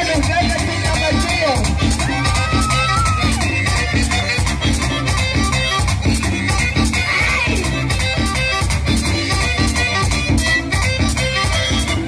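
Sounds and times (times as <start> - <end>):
accordion melody: 0.0 - 12.0
scraping percussion rhythm: 0.0 - 12.0.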